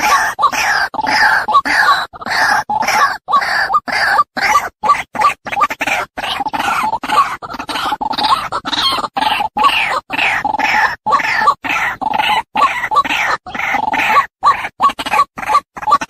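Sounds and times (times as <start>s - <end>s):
bird harsh repeated croaks: 0.0s - 16.0s.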